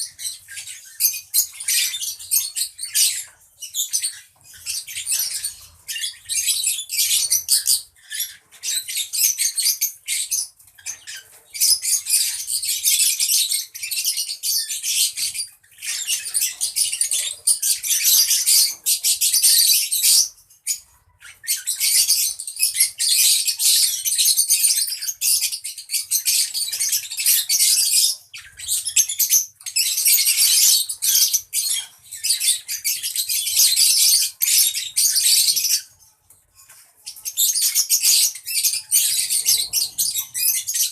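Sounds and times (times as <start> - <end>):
lovebirds chattering: 0.0 - 40.9.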